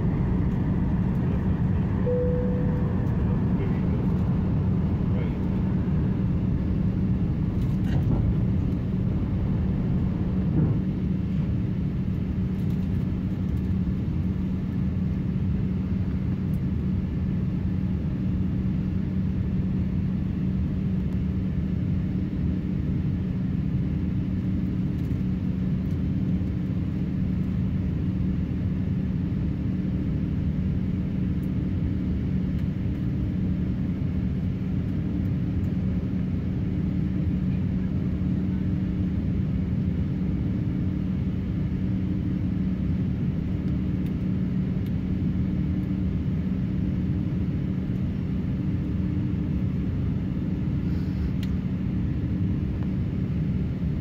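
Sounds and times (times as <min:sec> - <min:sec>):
constant cabin hum: 0:00.0 - 0:54.0
jet engine and airflow roar: 0:00.0 - 0:54.0.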